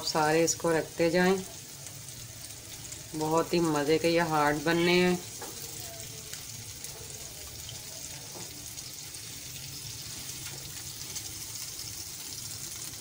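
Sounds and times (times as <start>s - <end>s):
bread frying in oil: 0.0s - 13.0s.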